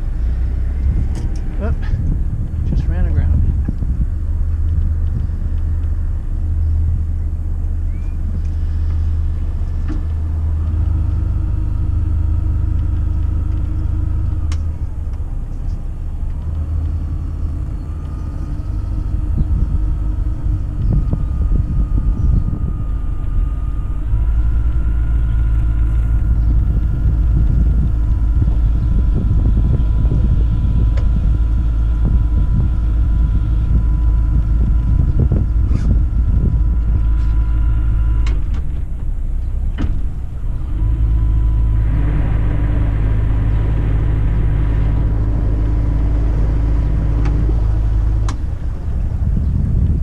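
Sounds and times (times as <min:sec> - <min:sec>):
boat engine rumbling: 0:00.0 - 0:50.0.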